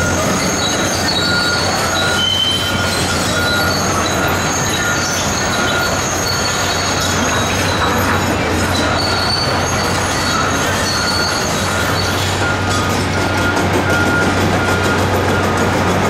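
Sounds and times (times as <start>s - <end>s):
diesel engine running: 0.0s - 16.0s
steel tracks squealing: 0.0s - 16.0s.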